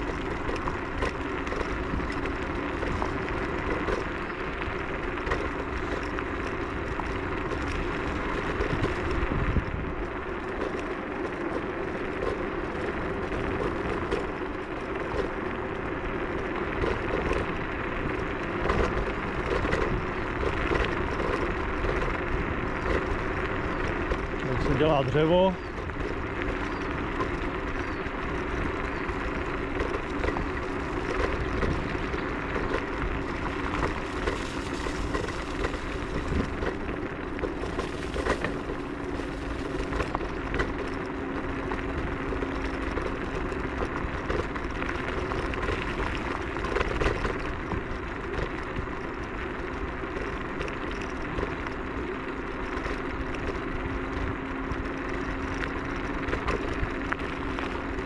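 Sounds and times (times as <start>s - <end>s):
faint motor hum: 0.0s - 58.0s
knocks and rattles over bumps: 0.0s - 58.0s
tyre and wind noise: 0.0s - 58.0s.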